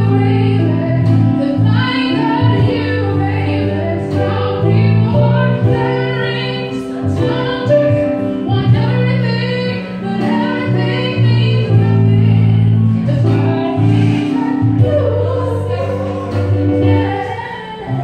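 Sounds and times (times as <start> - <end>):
keyboard and guitar: 0.0 - 18.0
woman singing: 0.0 - 18.0.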